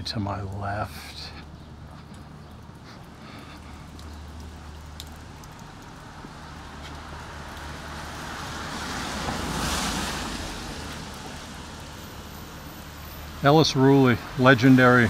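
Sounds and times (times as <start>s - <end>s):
tyres hissing on wet pavement: 0.0s - 15.0s.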